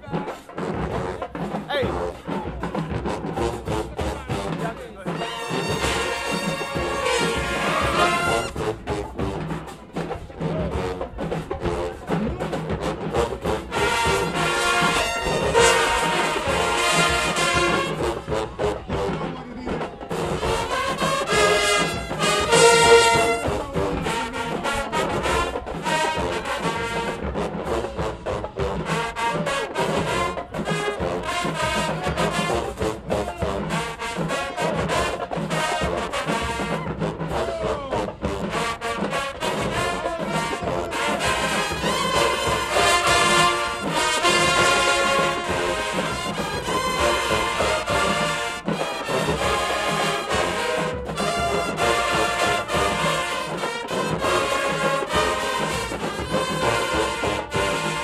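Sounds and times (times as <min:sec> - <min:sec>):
brass chords: 0:00.0 - 0:58.0
snare and bass drums: 0:00.0 - 0:58.0.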